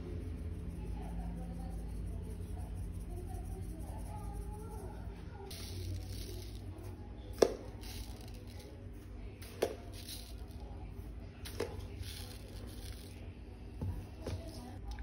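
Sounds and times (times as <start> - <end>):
sugar rustling being scooped: 0.7 - 13.3.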